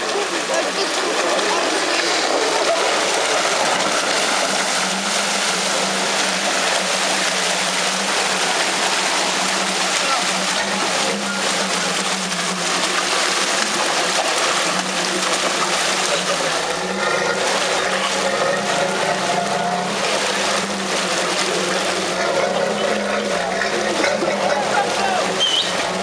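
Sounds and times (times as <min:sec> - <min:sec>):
diesel engine running: 0:00.0 - 0:26.0
mud and water sloshing: 0:00.0 - 0:26.0.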